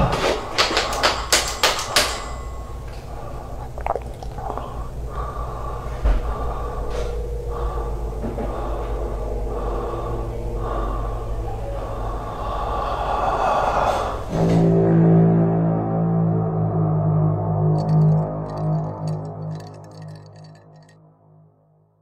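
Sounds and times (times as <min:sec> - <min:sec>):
low steady drone: 0:02.2 - 0:21.0.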